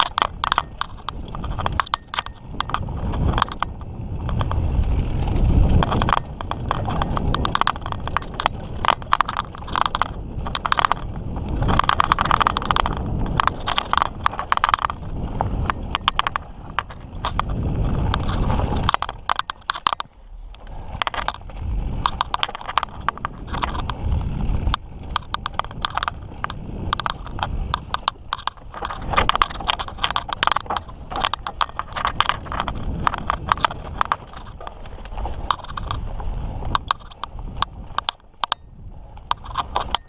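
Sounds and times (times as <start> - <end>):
bike rattling over rocks: 0.0 - 40.0.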